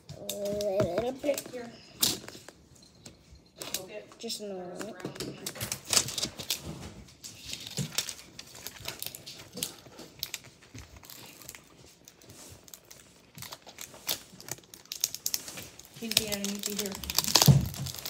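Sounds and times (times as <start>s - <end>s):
plastic film crinkling and tearing: 0.0s - 2.7s, 4.7s - 18.0s.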